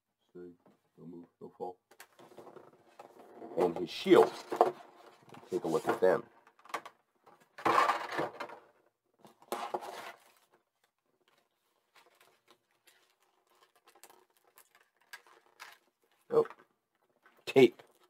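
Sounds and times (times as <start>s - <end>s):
plastic trays rustling and clattering: 1.9s - 18.0s.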